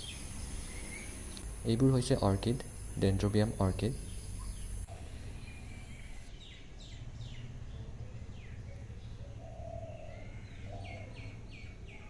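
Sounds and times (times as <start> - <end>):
low steady hum: 0.0 - 12.0
small bird chirping: 0.0 - 12.0.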